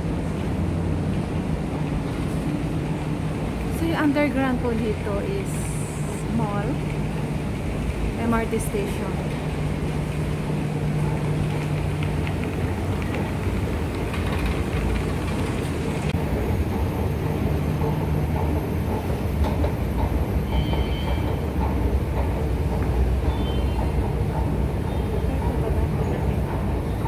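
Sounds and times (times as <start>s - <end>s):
escalator mechanical rumble: 0.0s - 27.0s.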